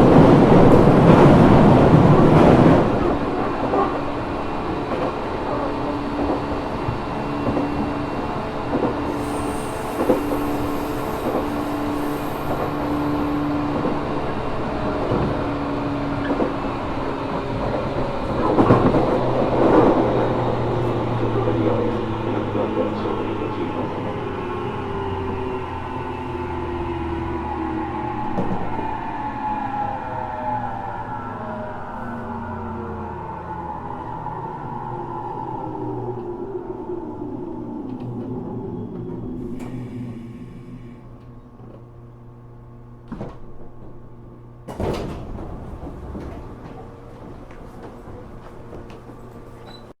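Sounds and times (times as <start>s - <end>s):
train car rumble: 0.0s - 50.0s.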